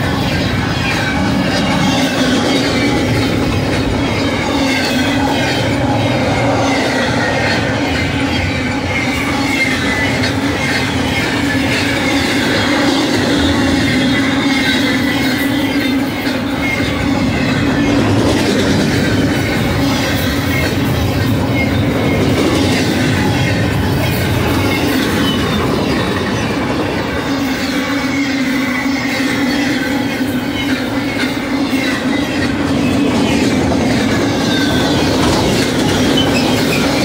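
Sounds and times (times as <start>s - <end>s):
high-pitched wheel squeal: 0.0s - 37.0s
train wheels rumbling on rails: 0.0s - 37.0s.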